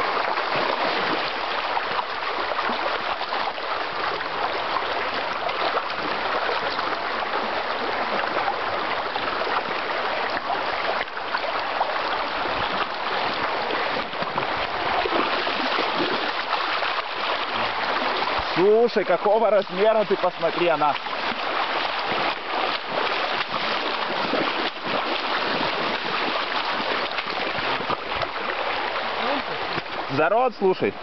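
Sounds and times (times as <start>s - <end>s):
river water rushing over stones: 0.0s - 31.0s.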